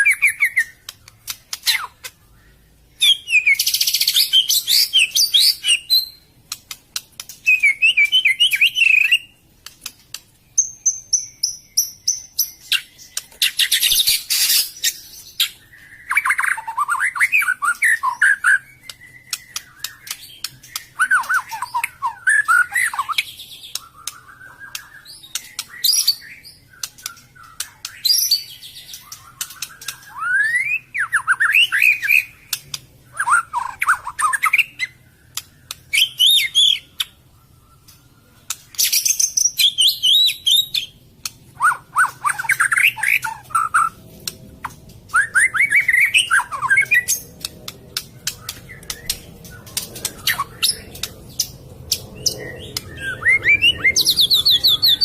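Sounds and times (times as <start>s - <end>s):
bird singing whistled song: 0.0s - 6.3s, 7.2s - 9.4s, 10.5s - 41.0s, 41.6s - 44.0s, 44.6s - 55.0s
harsh rasping bird calls: 11.0s - 55.0s.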